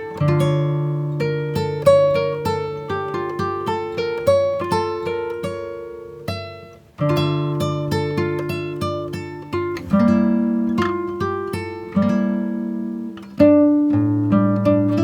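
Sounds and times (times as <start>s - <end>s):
acoustic guitar picking melody: 0.0s - 15.0s.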